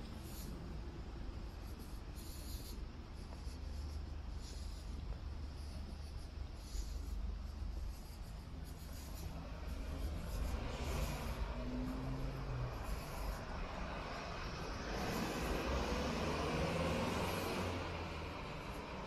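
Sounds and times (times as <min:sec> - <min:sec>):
street traffic rumble: 0:00.0 - 0:19.0
motor vehicle approaching: 0:01.7 - 0:19.0.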